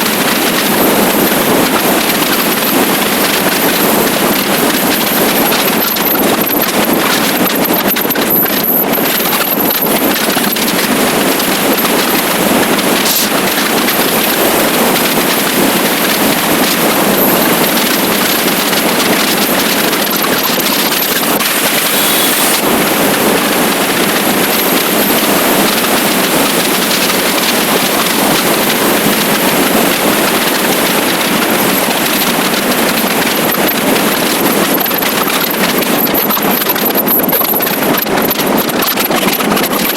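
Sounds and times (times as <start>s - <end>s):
motorcycle engine running: 0.0s - 39.9s
wind rush over microphone: 0.0s - 39.9s.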